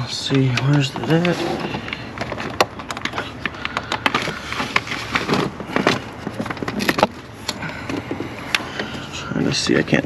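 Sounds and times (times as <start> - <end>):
hands clicking and rattling engine parts: 0.0 - 10.0.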